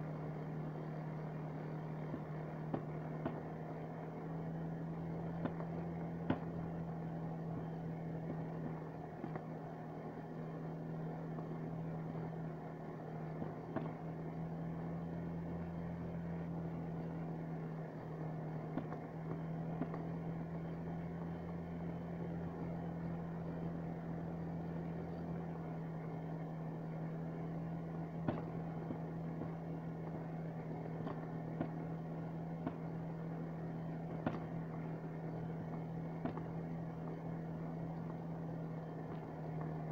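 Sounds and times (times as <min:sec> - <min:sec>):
snowmobile engine droning: 0:00.0 - 0:39.9.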